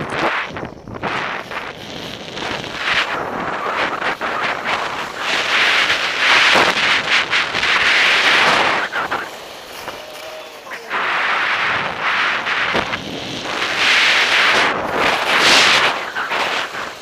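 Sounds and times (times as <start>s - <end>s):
skis scraping on packed snow: 0.0s - 17.0s
wind rushing over microphone: 0.0s - 17.0s.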